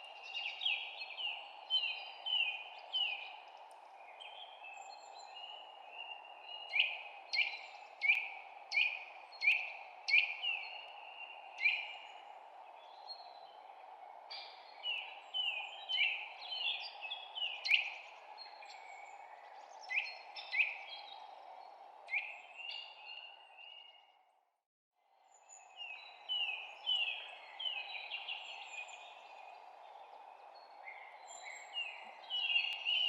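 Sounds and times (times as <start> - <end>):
songbird chirping: 0.0 - 24.2, 25.2 - 33.0.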